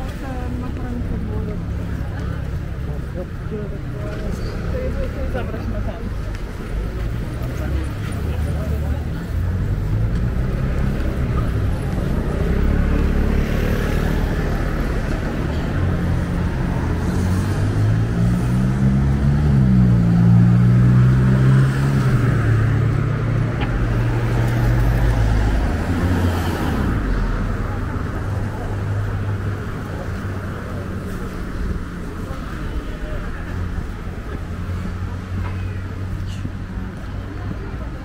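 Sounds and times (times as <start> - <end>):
steady road noise: 0.0 - 38.0
vehicle engine humming: 0.0 - 38.0.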